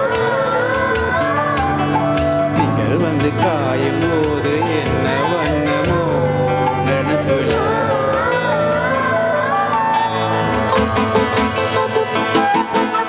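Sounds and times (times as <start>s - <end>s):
acoustic band music: 0.0s - 13.0s
acoustic guitar lead line: 0.0s - 13.0s.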